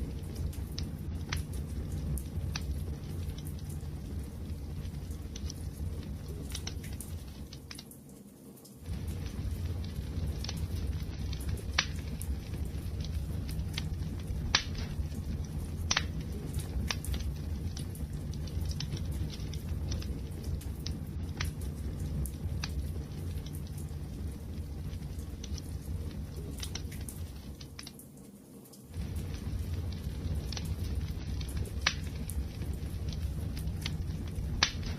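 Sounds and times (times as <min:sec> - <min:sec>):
fire crackling and popping: 0:00.0 - 0:34.9
wood fire rumbling: 0:00.0 - 0:34.9.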